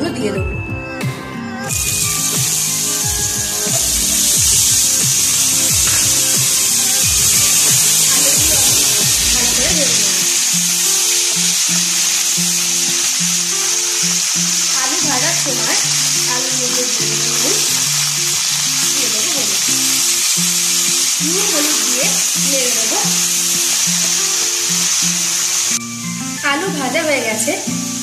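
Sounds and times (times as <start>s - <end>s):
slow background music: 0.0s - 28.0s
potatoes sizzling in oil: 1.7s - 28.0s.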